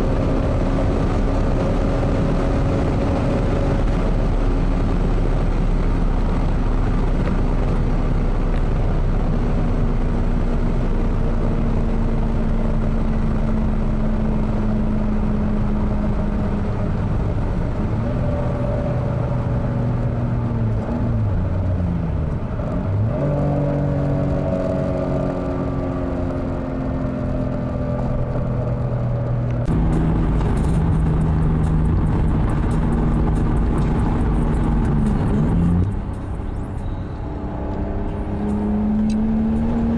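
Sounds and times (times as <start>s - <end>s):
car engine pulling hard: 0.0s - 39.9s
road and wind rumble: 0.0s - 39.9s.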